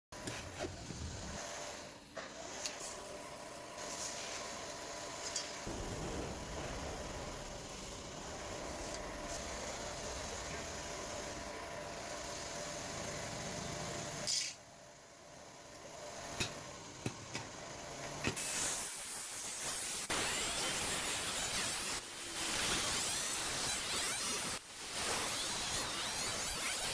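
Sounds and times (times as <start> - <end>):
welding arc sizzling: 0.2 - 26.9.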